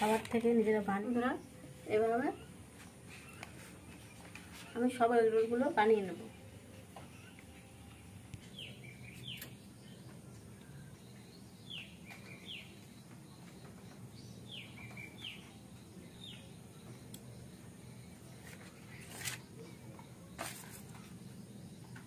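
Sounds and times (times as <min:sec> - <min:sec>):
faint bird chirps: 0:01.1 - 0:22.0.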